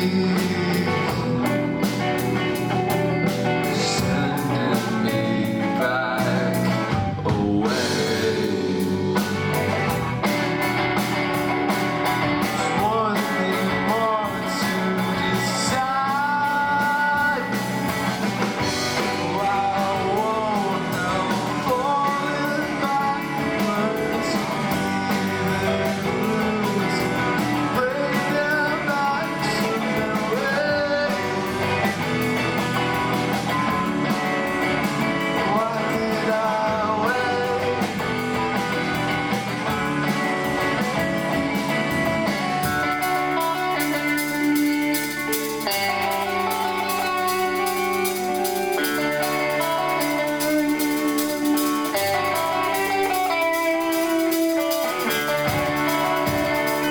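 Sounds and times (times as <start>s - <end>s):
bass guitar: 0.0s - 56.9s
drum kit: 0.0s - 56.9s
electric guitars: 0.0s - 56.9s.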